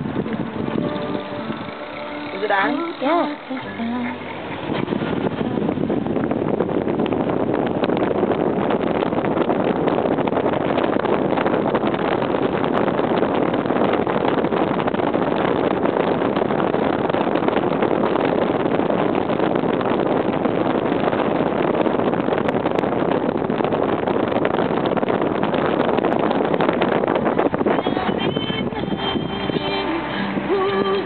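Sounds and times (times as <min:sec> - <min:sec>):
wind and road noise from car: 0:00.0 - 0:31.0.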